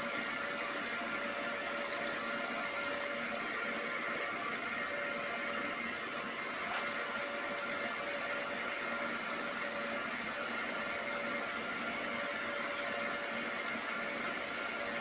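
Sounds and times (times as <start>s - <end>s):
milling machine whirring: 0.0s - 15.0s.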